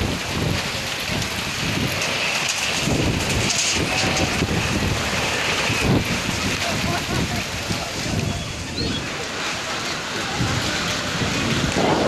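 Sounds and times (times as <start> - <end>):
wind buffeting microphone: 0.0 - 9.2, 10.0 - 12.0
heavy rain pouring: 0.0 - 12.0.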